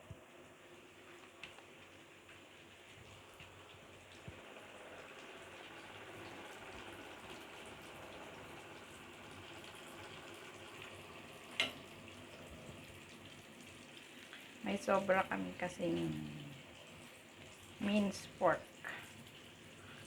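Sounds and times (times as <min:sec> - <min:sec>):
oil sizzling: 0:00.3 - 0:20.0.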